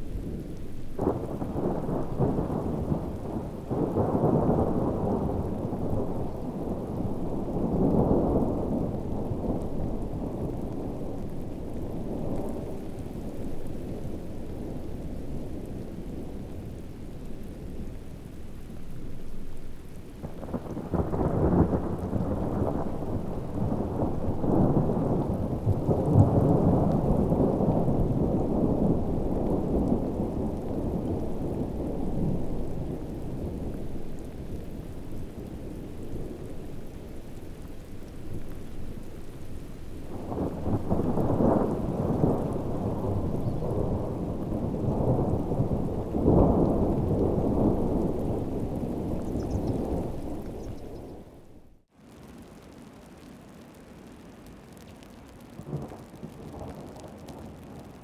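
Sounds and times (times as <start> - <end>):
rolling thunder: 0.0 - 17.9, 19.2 - 51.8
heavy rain: 0.0 - 58.0.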